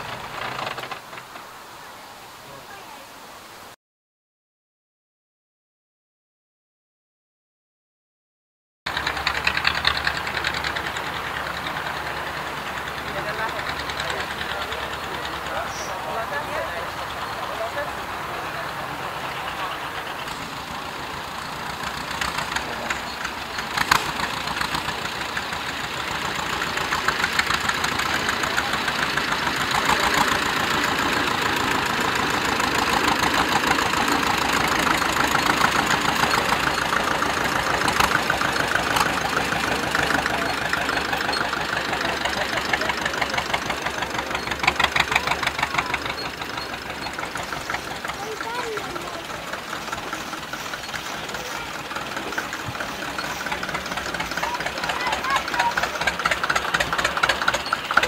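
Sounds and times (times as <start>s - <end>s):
tractor diesel engine driving past: 0.0s - 2.0s, 8.9s - 58.0s.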